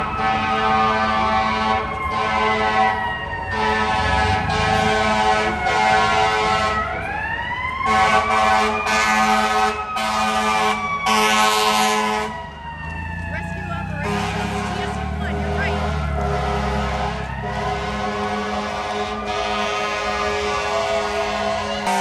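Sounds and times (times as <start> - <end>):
siren gliding in pitch: 0.0 - 22.0
air horn blasts: 0.2 - 2.9, 3.5 - 6.8, 7.9 - 12.4, 13.9 - 22.0.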